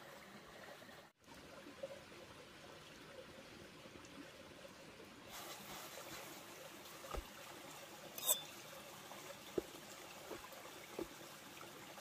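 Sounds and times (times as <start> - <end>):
small stream trickling: 0.0 - 12.0.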